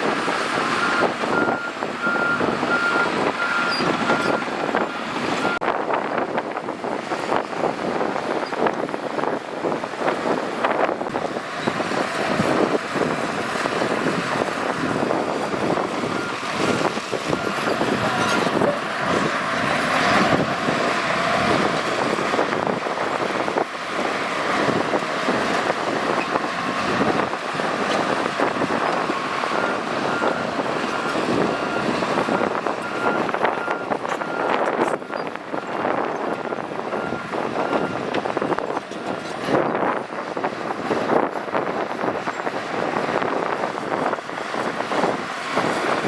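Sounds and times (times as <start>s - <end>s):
bulldozer diesel engine under load: 0.0s - 46.0s.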